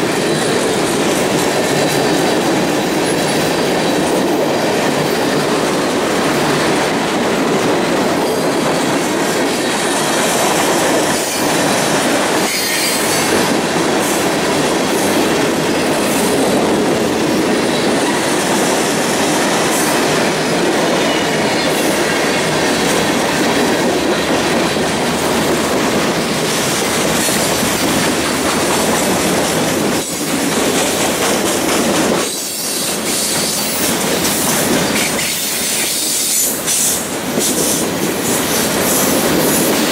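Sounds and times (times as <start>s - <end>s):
freight cars rolling on rails: 0.0s - 39.9s.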